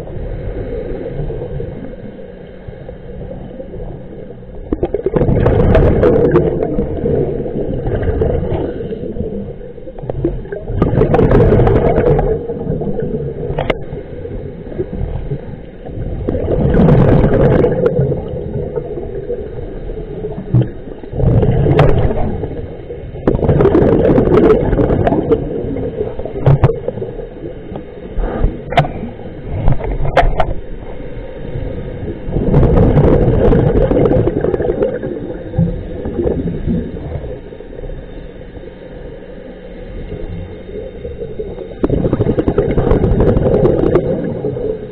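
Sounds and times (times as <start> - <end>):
diver's bubbles gurgling underwater: 3.0 - 38.0, 40.0 - 44.9.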